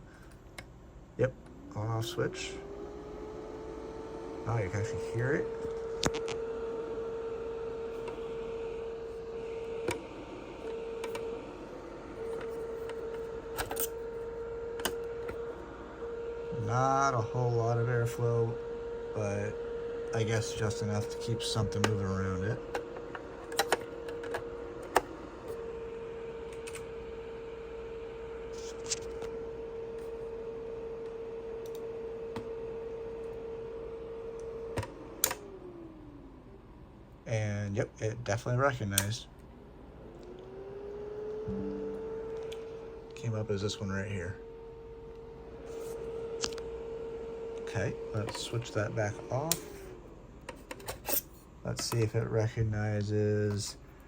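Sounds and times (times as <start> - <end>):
small fan whirring: 0.0 - 54.0.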